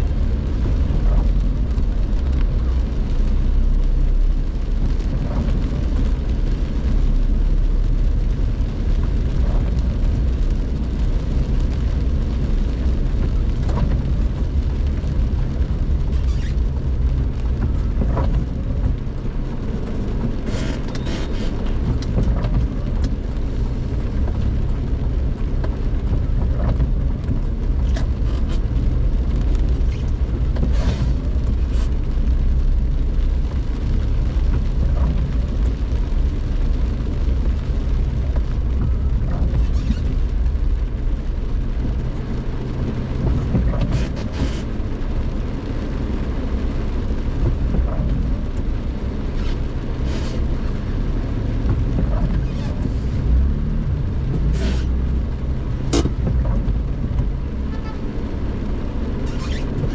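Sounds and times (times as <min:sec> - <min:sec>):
car interior rumble: 0:00.0 - 0:59.9.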